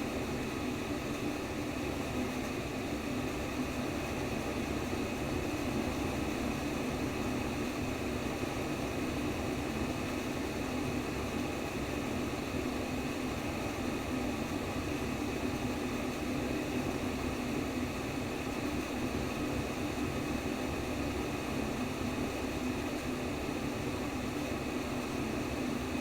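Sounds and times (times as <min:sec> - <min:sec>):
steady white noise: 0:00.0 - 0:26.0.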